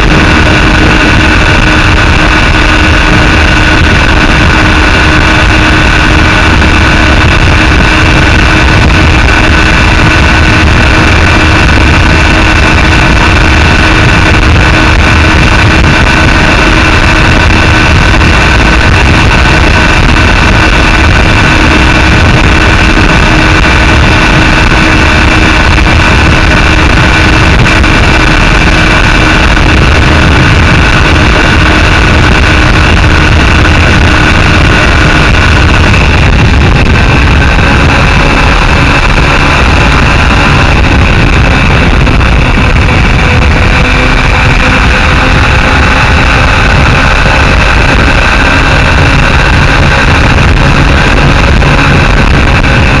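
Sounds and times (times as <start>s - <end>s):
motorcycle engine cruising: 0.0s - 53.0s
wind and road rush: 0.0s - 53.0s.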